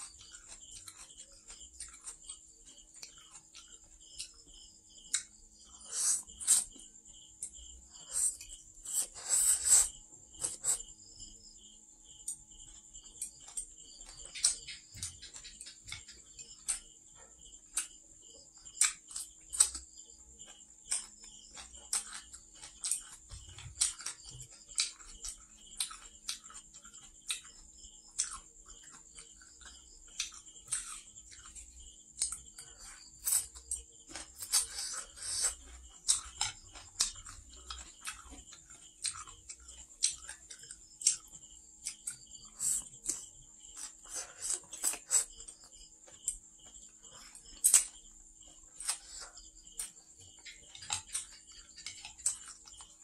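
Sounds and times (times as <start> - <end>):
chewing and mouth smacks: 0.0 - 11.4, 12.3 - 53.0
crickets chirping: 0.0 - 53.0.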